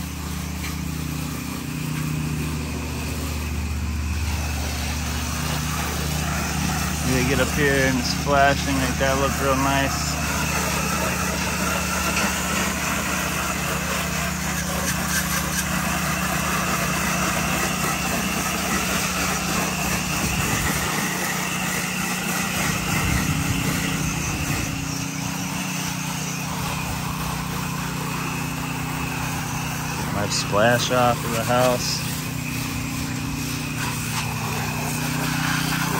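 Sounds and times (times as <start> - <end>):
small gas engine running: 0.0 - 35.9
water spray hissing and splattering: 0.0 - 35.9.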